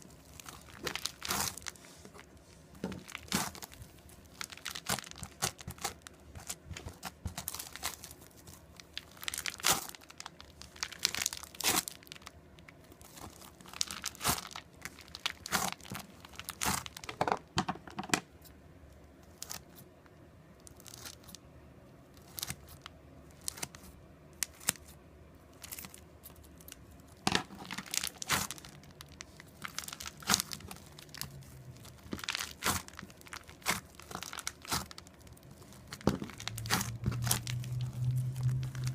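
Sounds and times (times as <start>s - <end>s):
crunchy slime crackling: 0.0s - 17.5s, 19.2s - 19.8s, 20.5s - 21.4s, 22.1s - 38.9s.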